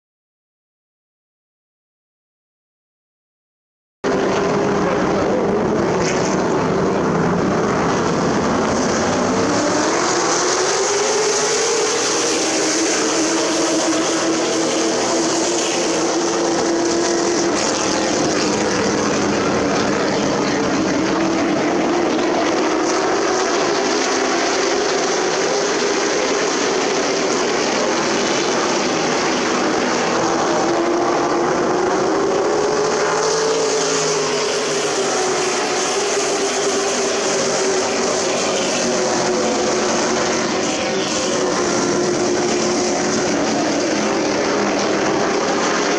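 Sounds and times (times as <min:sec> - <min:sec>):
race truck engines droning: 0:04.0 - 0:45.9.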